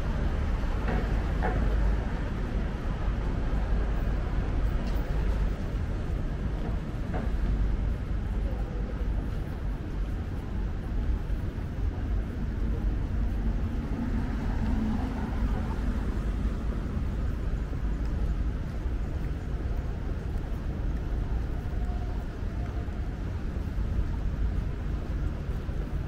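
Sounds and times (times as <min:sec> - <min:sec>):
faint voices of passers-by: 0:00.0 - 0:26.0
traffic rumble: 0:00.0 - 0:26.0.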